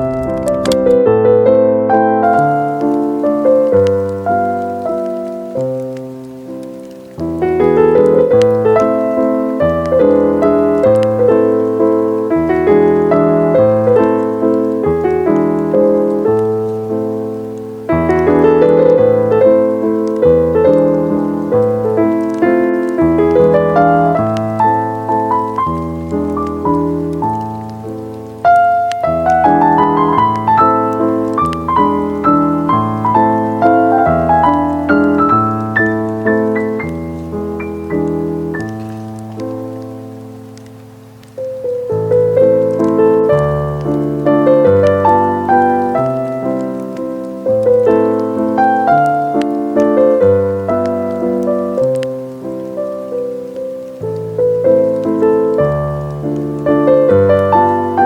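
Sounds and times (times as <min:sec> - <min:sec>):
solo piano melody: 0:00.0 - 0:58.0.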